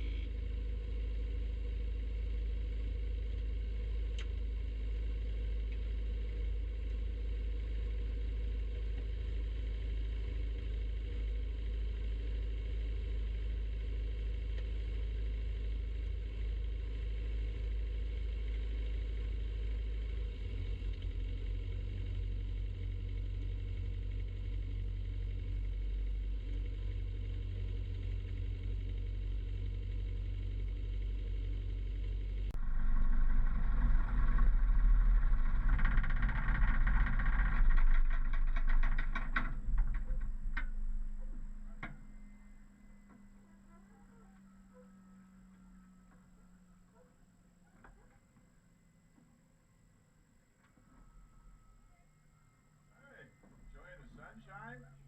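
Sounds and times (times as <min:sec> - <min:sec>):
plane piston engine droning: 0:00.0 - 0:55.0.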